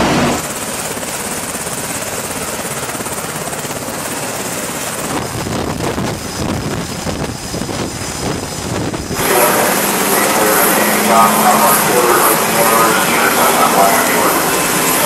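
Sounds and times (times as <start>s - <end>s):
helicopter rotor and turbine: 0.0s - 15.0s.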